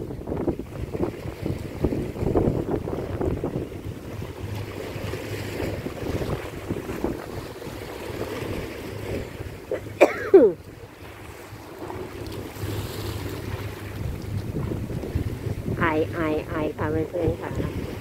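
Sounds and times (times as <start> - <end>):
sea waves: 0.0 - 18.0
wind buffeting microphone: 0.0 - 18.0
low steady hum: 3.4 - 18.0.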